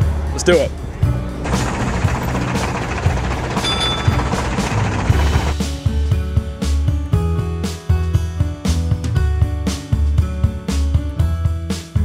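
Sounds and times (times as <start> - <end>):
music with drums and bass: 0.9 - 12.0.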